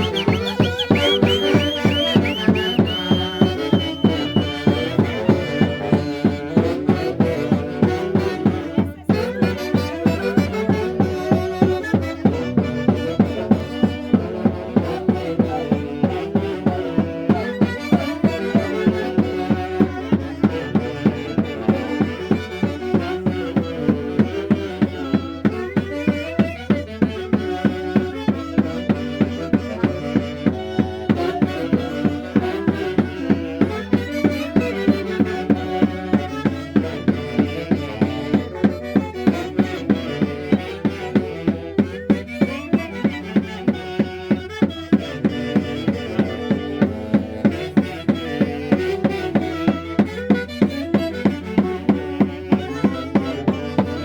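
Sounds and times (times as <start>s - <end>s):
steady drum beat: 0.0s - 54.0s.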